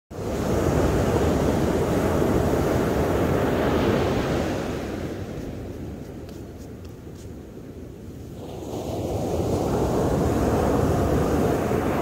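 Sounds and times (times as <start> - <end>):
surf washing up beach: 0.2 - 12.0.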